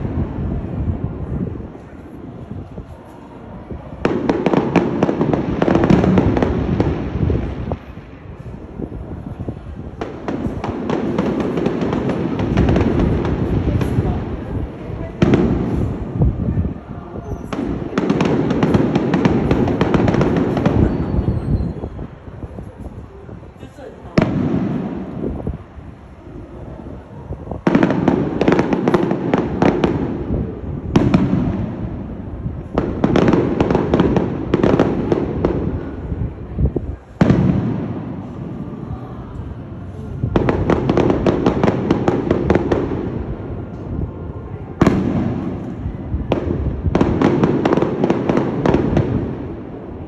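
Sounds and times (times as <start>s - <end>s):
firework bangs: 0.0s - 23.1s, 24.0s - 38.9s, 39.5s - 50.0s
firework crackling: 0.0s - 50.0s.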